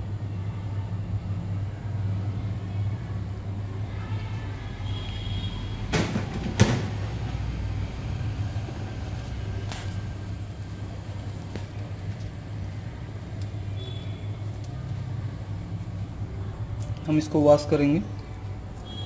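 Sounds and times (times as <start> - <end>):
hot-air station humming and hissing: 0.0 - 19.0.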